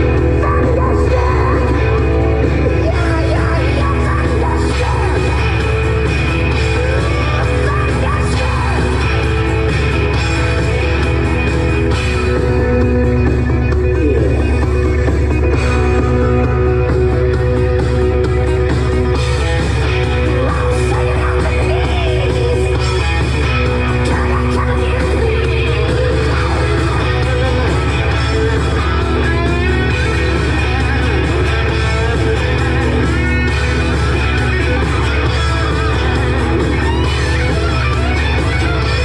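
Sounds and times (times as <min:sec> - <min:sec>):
guitar music: 0:00.0 - 0:39.0.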